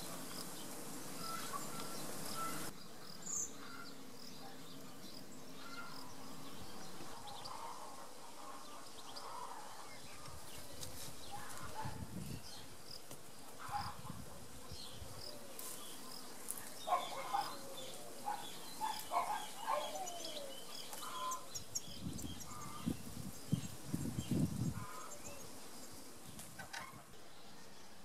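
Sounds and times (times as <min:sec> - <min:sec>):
birds chirping: 0:00.0 - 0:12.8, 0:13.5 - 0:28.0.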